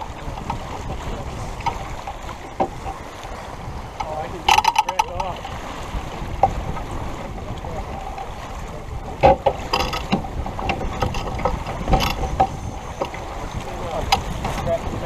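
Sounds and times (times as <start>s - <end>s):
water rushing along hull: 0.0s - 15.0s
wind on microphone: 0.0s - 15.0s.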